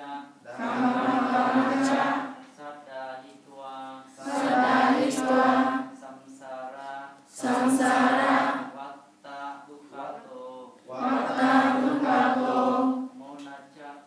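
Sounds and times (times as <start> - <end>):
congregation chanting in unison: 0.0 - 14.0.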